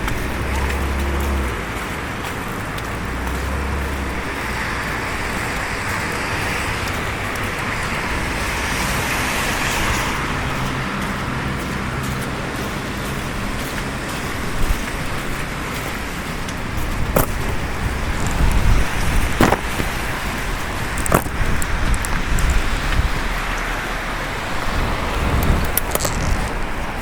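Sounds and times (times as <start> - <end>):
city street traffic: 0.0 - 27.0
vehicle passing close: 0.0 - 27.0.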